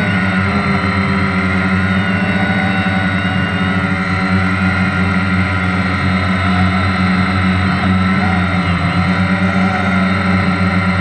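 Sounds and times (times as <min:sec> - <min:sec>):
drone propellers humming: 0:00.0 - 0:11.0.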